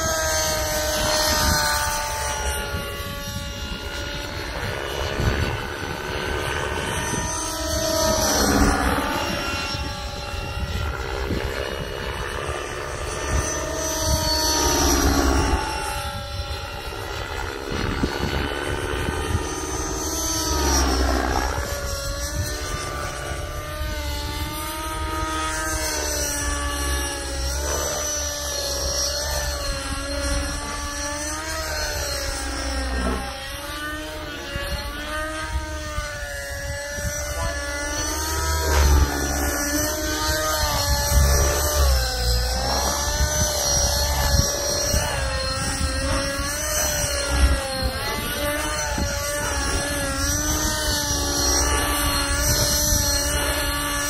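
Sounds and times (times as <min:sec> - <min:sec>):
model helicopter engine whine: 0:00.0 - 0:54.0.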